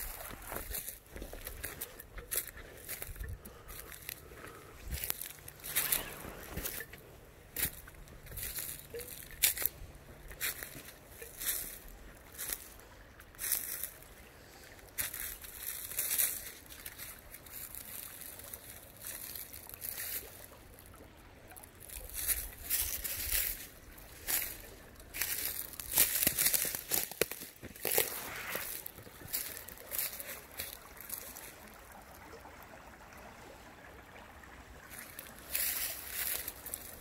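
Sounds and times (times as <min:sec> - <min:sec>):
footsteps crunching dry leaves: 0:00.0 - 0:20.6, 0:21.6 - 0:31.8, 0:34.9 - 0:37.0
creek trickling: 0:00.0 - 0:37.0.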